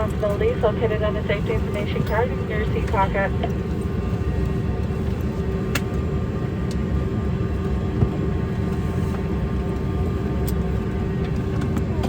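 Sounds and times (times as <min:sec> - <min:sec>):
airliner cabin rumble and hum: 0:00.0 - 0:12.0
constant drone tone: 0:00.0 - 0:12.0.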